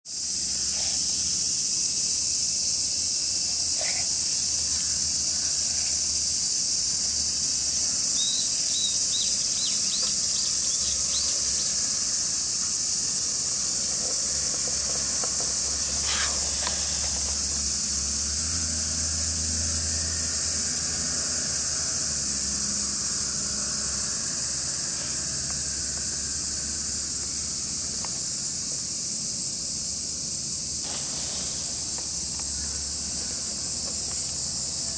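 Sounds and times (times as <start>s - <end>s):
cicadas chorus: 0.0s - 34.9s.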